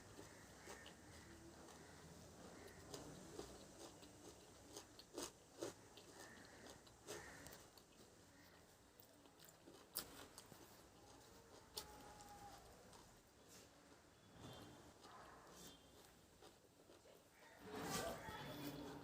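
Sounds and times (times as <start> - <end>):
person chewing food: 0.0 - 14.3, 15.0 - 17.5.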